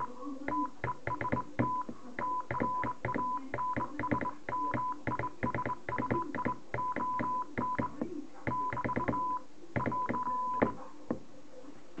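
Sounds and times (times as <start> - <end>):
morse code beeps: 0.0 - 7.9, 8.5 - 10.8.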